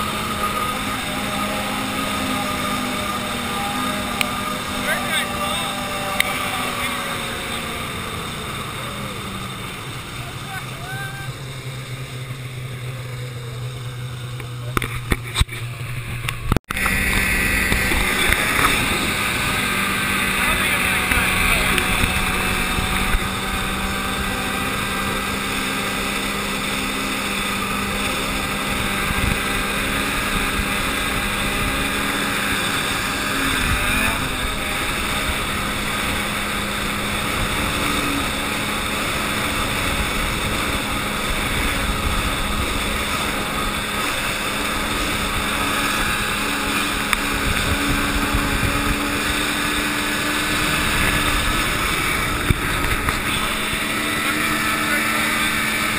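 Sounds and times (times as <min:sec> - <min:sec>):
snowmobile engine running: 0:00.0 - 0:55.9.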